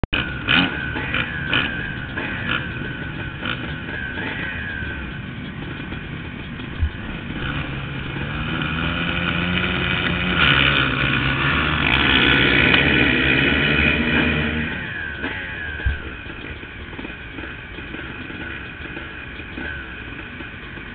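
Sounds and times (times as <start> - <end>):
motocross bikes revving: 0.0 - 20.9.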